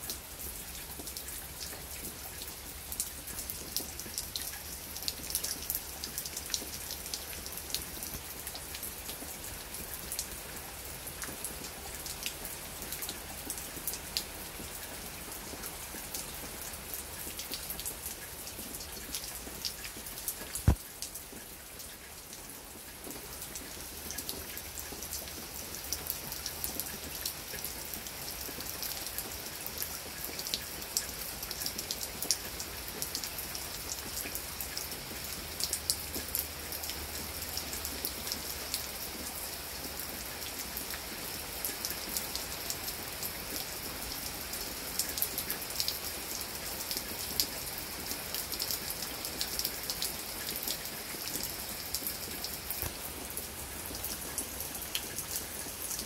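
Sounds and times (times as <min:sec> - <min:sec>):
sharp ticks of raindrops: 0:00.0 - 0:56.0.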